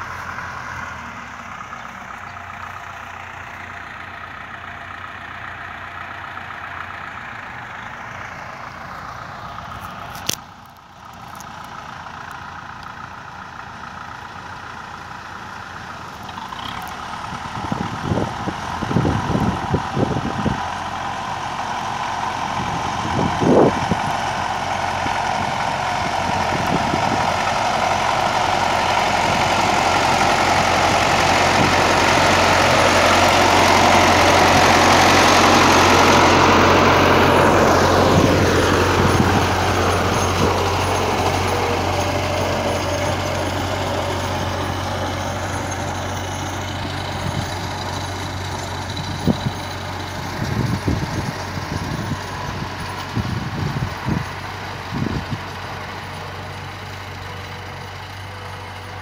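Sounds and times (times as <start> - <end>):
tractor diesel engine passing: 0.0 - 59.0.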